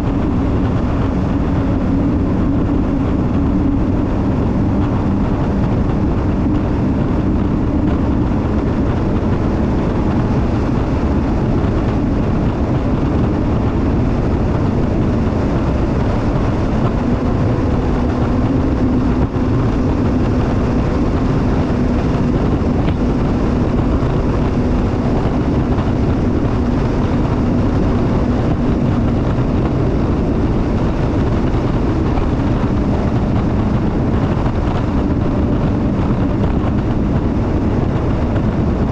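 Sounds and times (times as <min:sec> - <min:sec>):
jet ski engine running: 0:00.0 - 0:38.9
rushing noise: 0:00.0 - 0:38.9.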